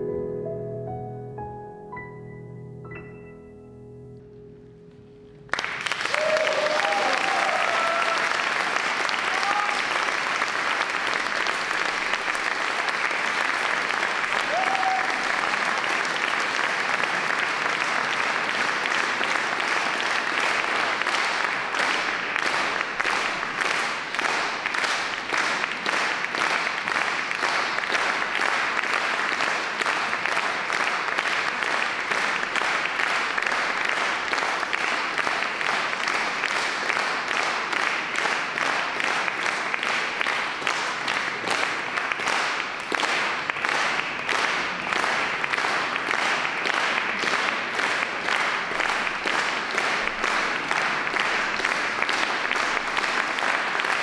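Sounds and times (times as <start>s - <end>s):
audience applauding: 5.5s - 54.0s.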